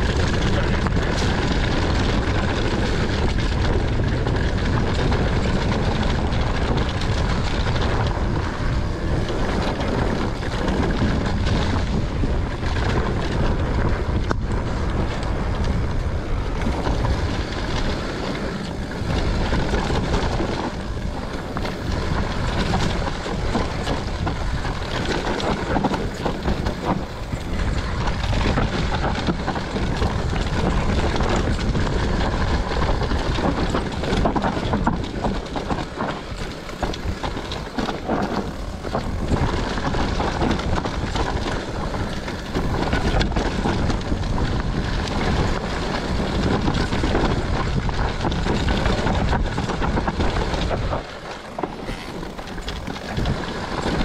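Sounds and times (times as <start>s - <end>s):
bike rattling: 0.0s - 54.0s
tyres crunching over dirt and stones: 0.0s - 54.0s
wind buffeting microphone: 0.0s - 54.0s.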